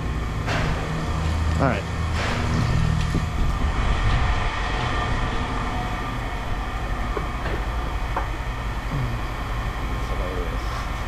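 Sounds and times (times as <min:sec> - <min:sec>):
heavy machinery rumble: 0:00.0 - 0:11.0.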